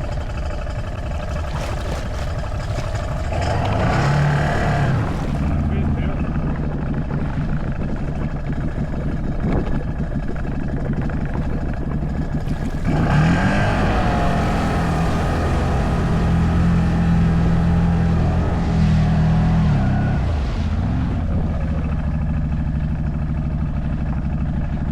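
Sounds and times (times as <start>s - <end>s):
atv engine revving: 0.0s - 11.4s, 12.0s - 24.8s.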